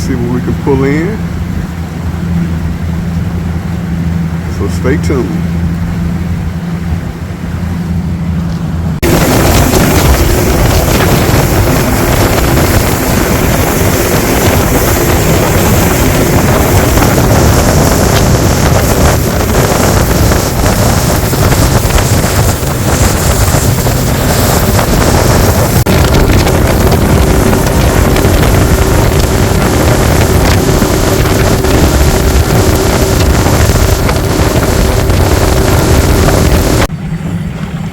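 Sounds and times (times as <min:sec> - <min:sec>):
motorboat engine hum: 0:00.0 - 0:37.9
wind buffeting microphone: 0:00.0 - 0:37.9.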